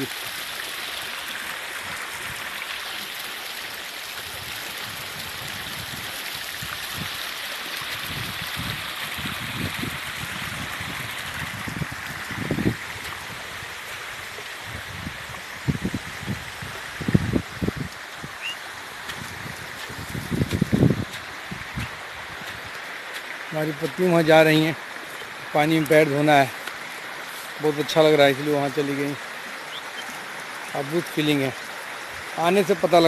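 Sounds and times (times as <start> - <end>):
stream flowing over stones: 0.0 - 33.0.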